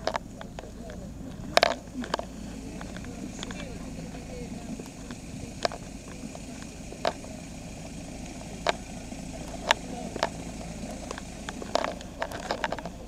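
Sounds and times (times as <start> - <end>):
heavy truck engine rumbling: 0.0 - 13.0.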